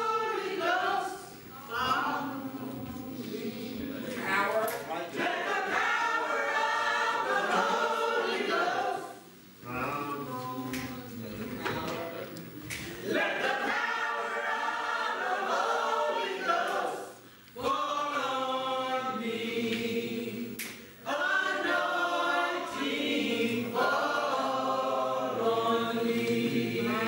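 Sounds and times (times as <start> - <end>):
church choir singing: 0.0 - 12.1, 12.9 - 27.0.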